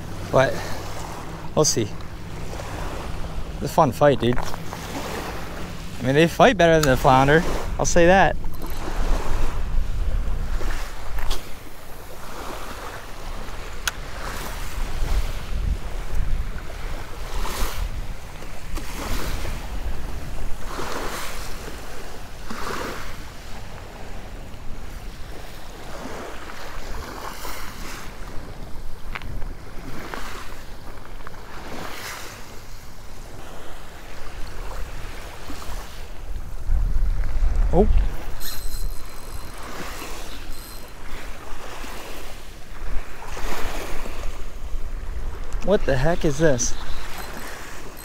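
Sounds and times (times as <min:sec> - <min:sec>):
wind buffeting microphone: 0:00.0 - 0:32.0, 0:32.6 - 0:48.0
small waves breaking on beach: 0:00.0 - 0:48.0.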